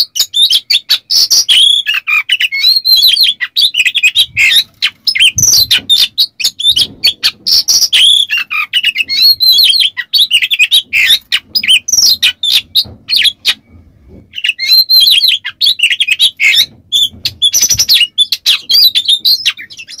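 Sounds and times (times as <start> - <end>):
bird singing whistles and chirps: 0.0 - 13.6, 14.3 - 20.0.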